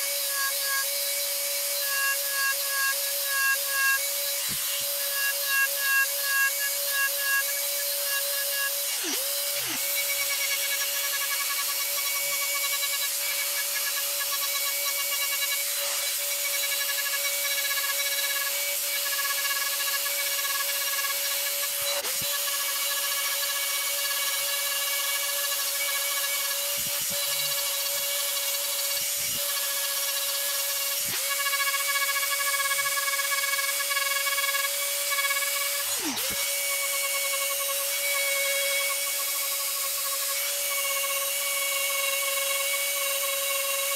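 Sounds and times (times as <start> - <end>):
rotary tool whining: 0.0 - 43.9.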